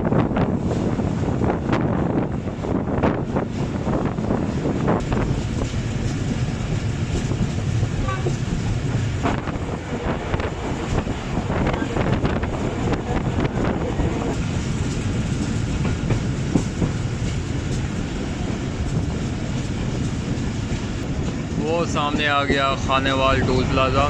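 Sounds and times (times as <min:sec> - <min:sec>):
train coaches rumbling: 0:00.0 - 0:24.0.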